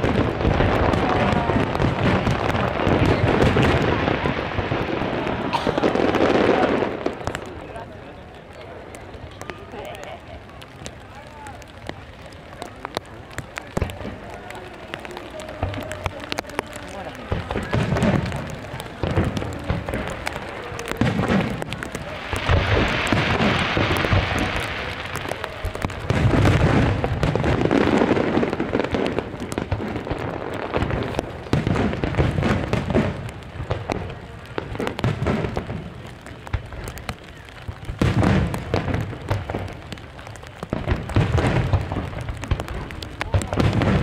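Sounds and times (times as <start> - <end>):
fireworks booming and banging: 0.0 - 44.0
hissing crackle of fireworks: 0.0 - 44.0.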